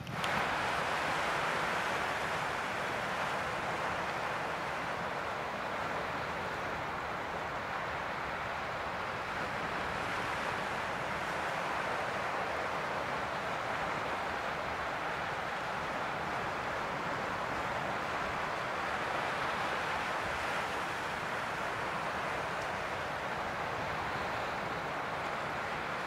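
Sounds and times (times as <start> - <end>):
surf washing over rocks: 0.0 - 26.0.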